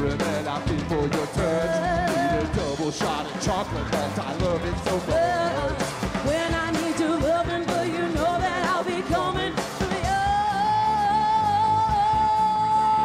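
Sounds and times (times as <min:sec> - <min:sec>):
live rock band playing: 0:00.0 - 0:13.0
person singing lead vocals: 0:00.0 - 0:13.0.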